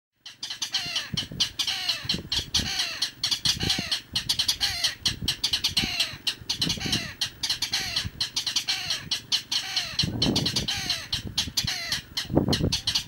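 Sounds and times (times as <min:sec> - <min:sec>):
birds calling harsh clattering notes: 0:00.2 - 0:13.0.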